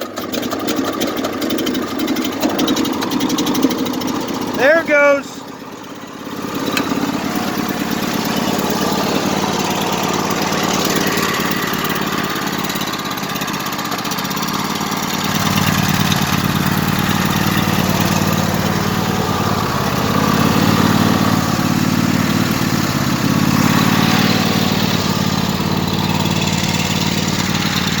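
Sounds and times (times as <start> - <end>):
lawn tractor engine running: 0.0 - 28.0.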